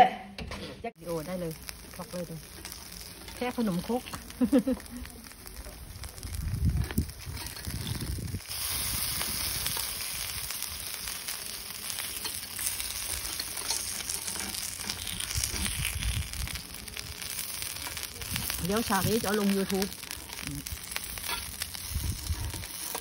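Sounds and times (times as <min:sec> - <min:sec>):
batter sizzling in a hot pan: 0:01.0 - 0:23.0.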